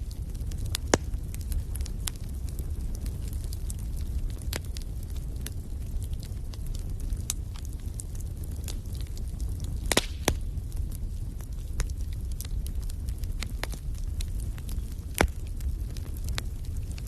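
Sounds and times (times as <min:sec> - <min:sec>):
fire burning rumble: 0:00.0 - 0:17.0
wood fire popping: 0:00.0 - 0:17.0.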